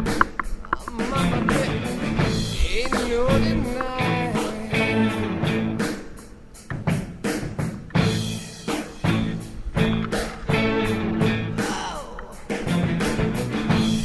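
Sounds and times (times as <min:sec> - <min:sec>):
rock music with drum beat: 0:00.0 - 0:14.0.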